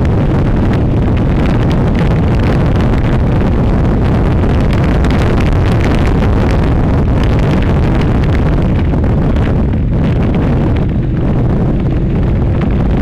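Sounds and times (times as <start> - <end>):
motorcycle running: 0.0 - 13.0
wind rushing over microphone: 0.0 - 13.0.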